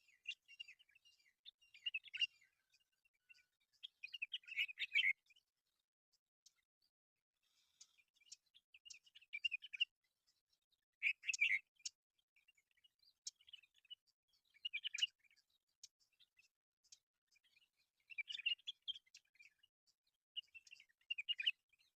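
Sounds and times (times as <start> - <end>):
myna birds chattering chirps: 0.0 - 5.4, 7.4 - 10.4, 11.0 - 19.7, 20.4 - 21.9.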